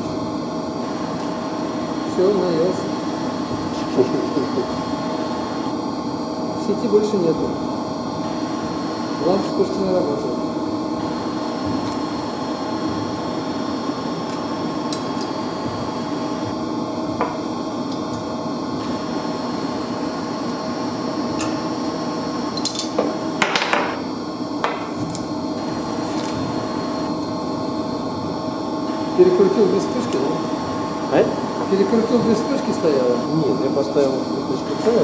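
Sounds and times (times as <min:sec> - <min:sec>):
machinery humming: 0:00.0 - 0:35.0.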